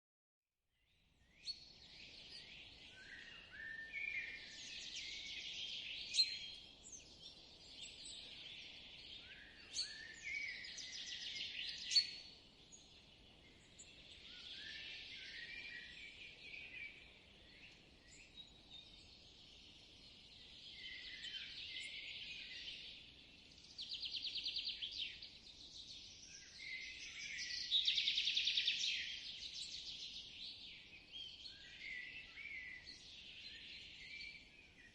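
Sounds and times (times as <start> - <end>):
songbirds singing: 0.8 - 34.9.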